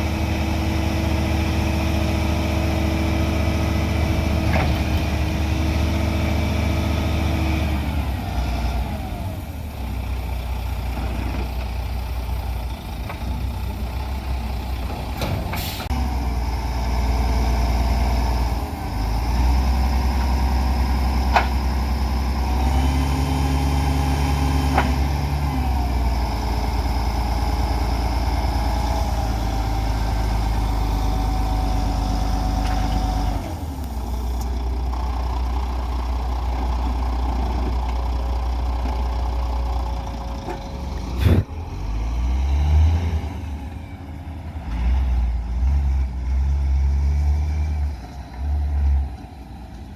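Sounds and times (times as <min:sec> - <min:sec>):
diesel truck engine running: 0:00.0 - 0:45.6.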